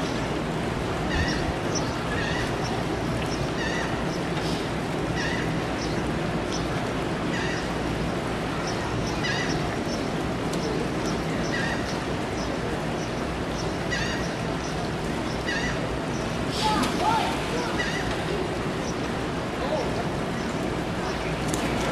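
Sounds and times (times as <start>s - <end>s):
wind: 0.0s - 21.9s
gulls crying: 0.1s - 21.9s.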